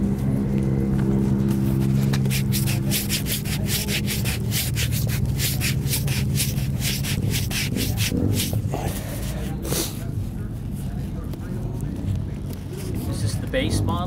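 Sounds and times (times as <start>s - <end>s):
low engine hum: 0.0s - 14.0s
hand rubbing tire tread: 1.0s - 14.0s.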